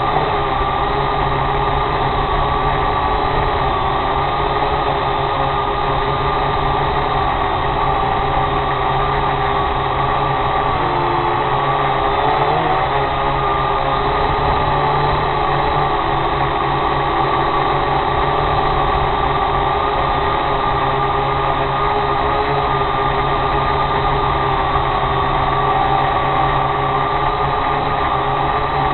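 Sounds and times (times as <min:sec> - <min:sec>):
drone propellers humming: 0:00.0 - 0:28.9.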